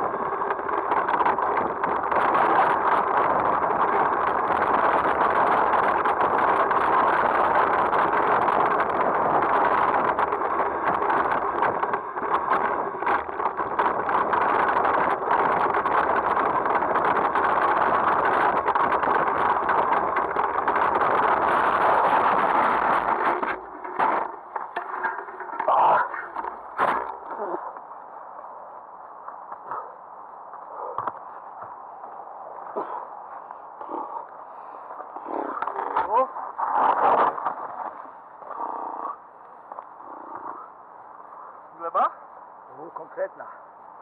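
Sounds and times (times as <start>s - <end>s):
bike rattling: 0.0s - 40.7s
wind rushing over microphone: 0.0s - 44.0s.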